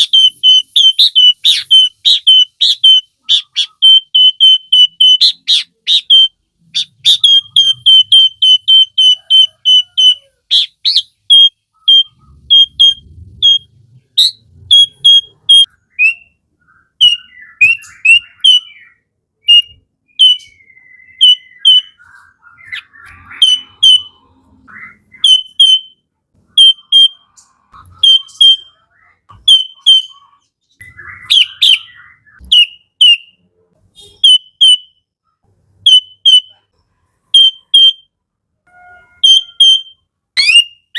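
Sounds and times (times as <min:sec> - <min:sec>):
bird calling sharp high notes: 0:00.0 - 0:33.4, 0:38.7 - 0:40.9
bird warbled gliding phrases: 0:00.0 - 0:33.6.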